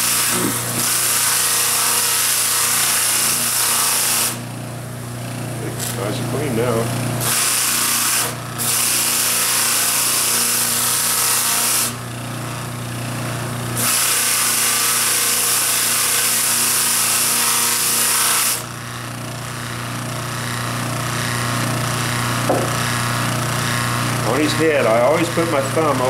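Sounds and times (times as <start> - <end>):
sander rasping on wood: 0.0 - 4.5, 5.6 - 12.6, 13.8 - 26.0
bench motor hum: 0.0 - 26.0.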